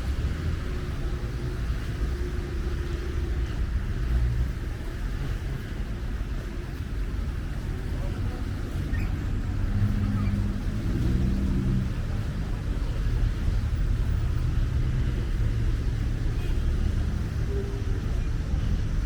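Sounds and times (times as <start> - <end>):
passing engine hum: 0.0 - 19.0
traffic low rumble: 0.0 - 19.0.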